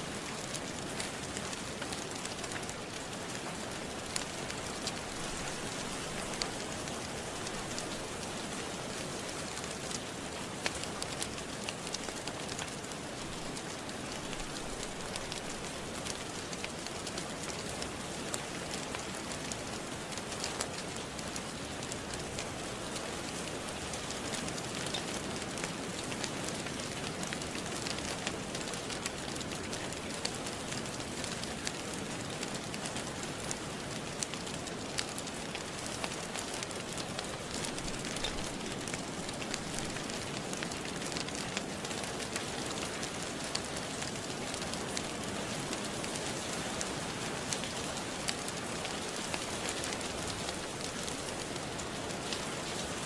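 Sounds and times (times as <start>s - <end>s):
rain falling: 0.0s - 53.0s
wood fire crackling: 0.0s - 53.0s.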